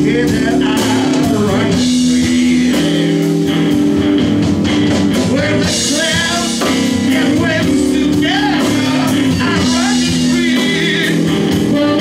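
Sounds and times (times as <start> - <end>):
drum kit: 0.0 - 12.0
electric guitars: 0.0 - 12.0
pitch-bending melody line: 0.0 - 12.0.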